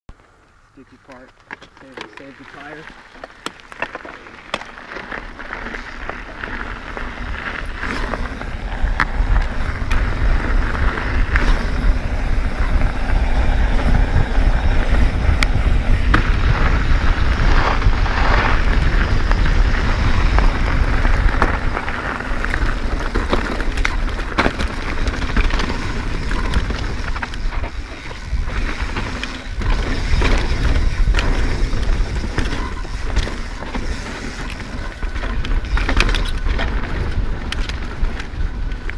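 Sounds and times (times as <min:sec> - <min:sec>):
bike clicks and rattles: 0:00.1 - 0:38.9
tires crunching on gravel: 0:00.1 - 0:38.9
wind buffeting microphone: 0:04.4 - 0:38.9.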